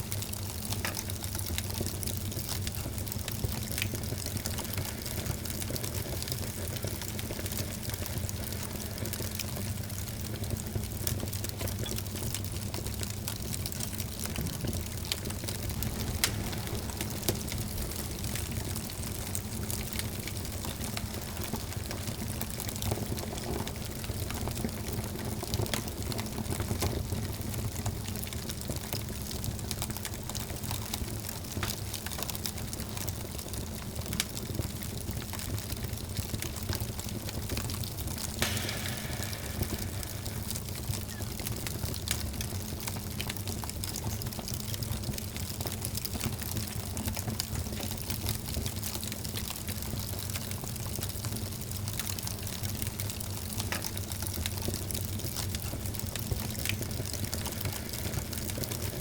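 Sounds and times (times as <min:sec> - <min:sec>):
fire crackles and pops: 0:00.0 - 0:59.0
flames hissing and rumbling: 0:00.0 - 0:59.0.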